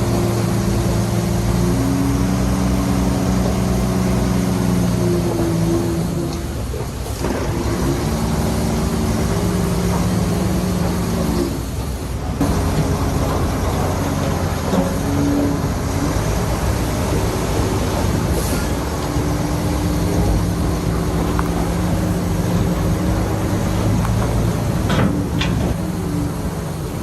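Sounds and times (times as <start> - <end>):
heavy diesel machinery engine: 0.0 - 27.0.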